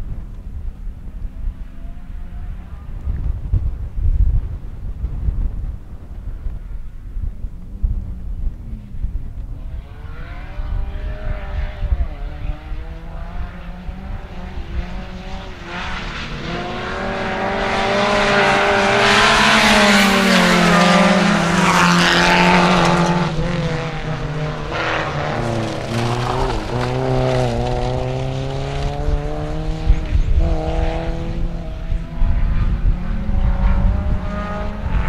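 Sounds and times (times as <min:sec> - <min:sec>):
rally car engines revving: 0:06.0 - 0:35.0.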